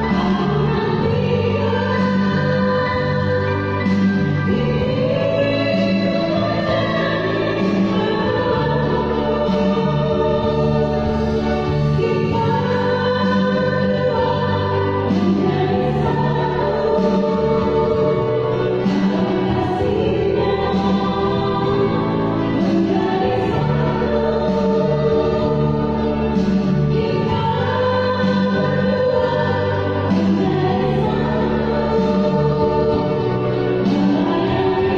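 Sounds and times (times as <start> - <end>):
choir singing: 0.0 - 34.9.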